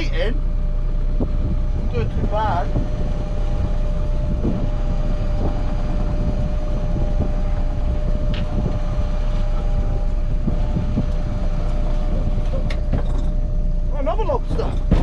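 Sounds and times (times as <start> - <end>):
boat machinery rumbling: 0.0 - 15.0
machinery whine: 0.0 - 15.0.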